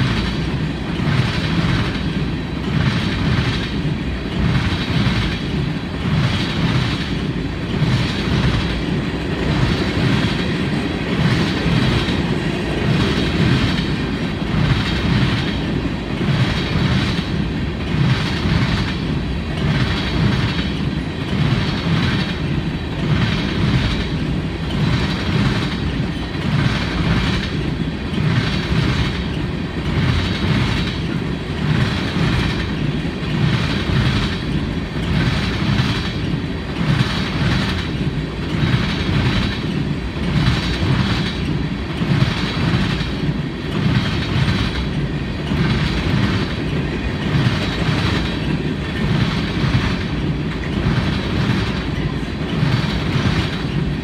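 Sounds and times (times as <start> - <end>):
freight train rumbling by: 0.0 - 54.0.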